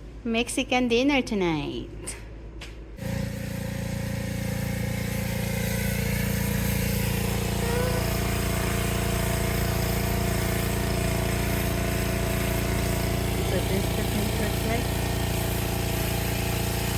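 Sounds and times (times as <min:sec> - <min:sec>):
motor humming: 0:03.0 - 0:16.9.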